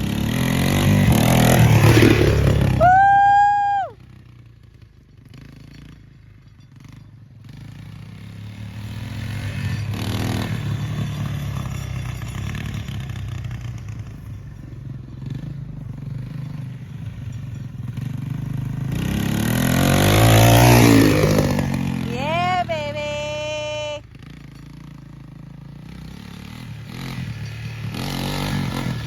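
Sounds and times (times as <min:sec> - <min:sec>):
three-wheeler engine running: 0:00.0 - 0:29.0.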